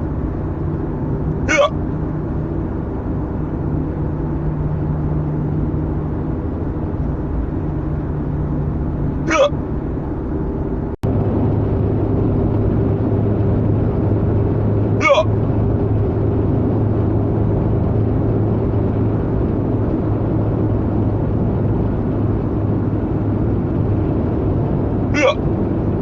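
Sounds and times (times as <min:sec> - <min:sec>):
car engine and road hum: 0:00.0 - 0:26.0.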